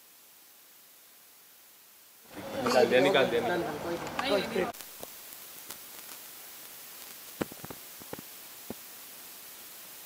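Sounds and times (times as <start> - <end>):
recording hiss: 0.0 - 10.0.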